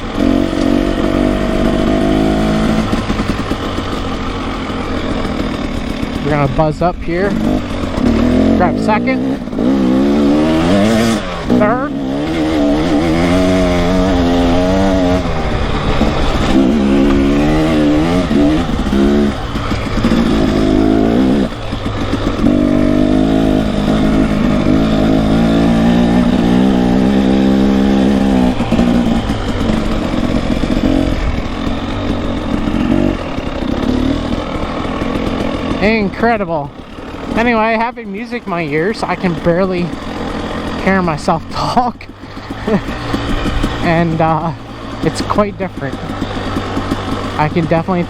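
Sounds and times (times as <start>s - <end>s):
low wind rumble: 0.0s - 48.0s
motorcycle engine revving: 0.0s - 48.0s.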